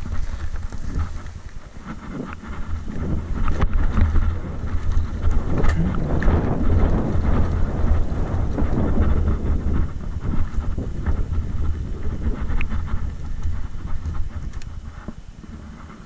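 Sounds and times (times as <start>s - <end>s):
bike rattling over stones: 0.0s - 16.0s
bike tyres rolling on gravel: 0.0s - 16.0s
wind buffeting microphone: 0.0s - 16.0s.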